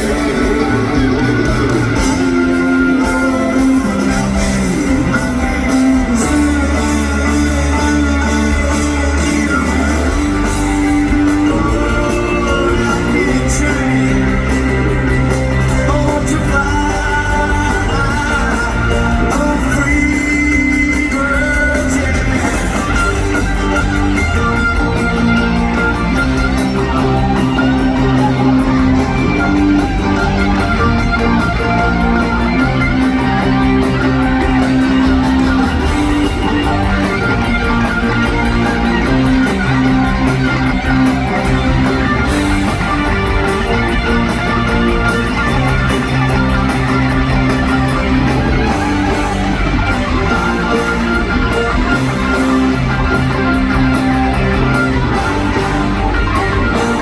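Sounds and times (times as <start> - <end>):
bass guitar: 0.0 - 57.0
electric guitars: 0.0 - 57.0
steady drum beat: 0.0 - 57.0.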